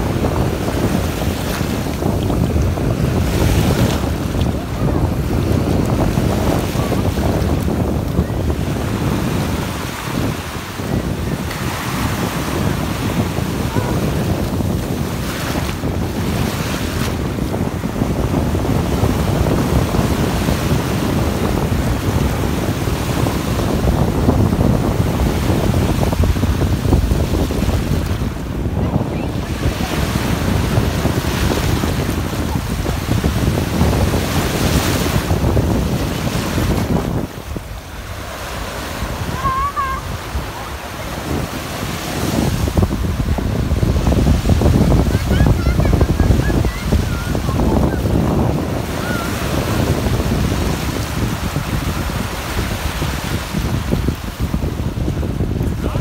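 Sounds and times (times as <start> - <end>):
sea surf washing in shallows: 0.0 - 56.0
wind buffeting microphone: 0.0 - 56.0.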